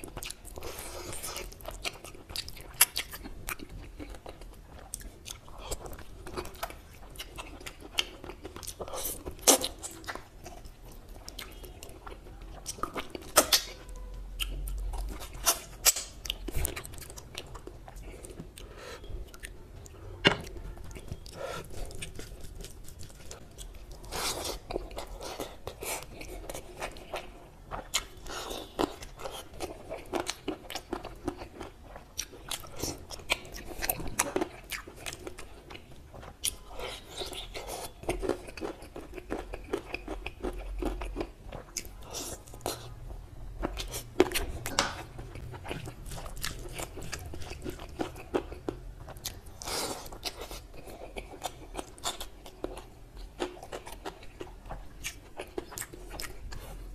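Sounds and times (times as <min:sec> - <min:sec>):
person chewing and crunching: 0:00.0 - 0:56.9.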